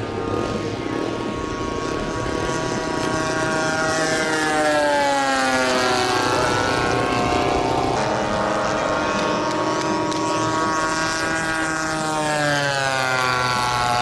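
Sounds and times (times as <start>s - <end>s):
model airplane propeller buzz: 0.0s - 14.0s.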